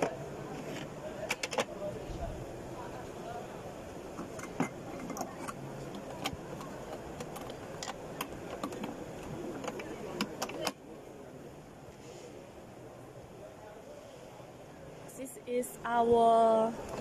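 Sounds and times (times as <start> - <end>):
low background murmur: 0.0 - 17.0.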